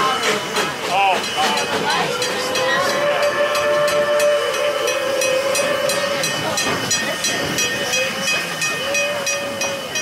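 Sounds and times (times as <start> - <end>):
locomotive exhaust beats: 0.0 - 10.0
steam hissing: 0.0 - 10.0
steady high tone: 1.5 - 10.0.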